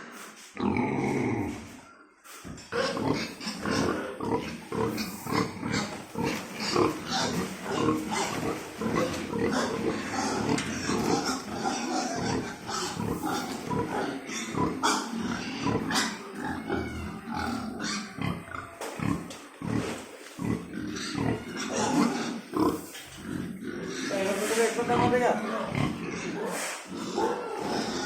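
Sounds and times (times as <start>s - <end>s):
pigs grunting: 0.0s - 28.0s.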